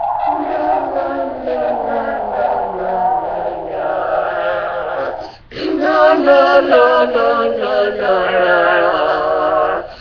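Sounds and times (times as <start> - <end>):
person singing wavering notes: 0.0 - 10.0.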